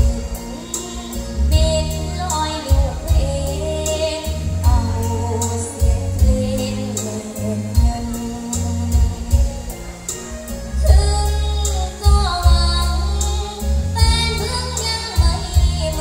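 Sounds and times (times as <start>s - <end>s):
girl singing into microphone: 0.0s - 9.5s, 10.8s - 16.0s
steady drum beat: 0.0s - 13.1s, 15.2s - 16.0s
bass line: 0.0s - 16.0s.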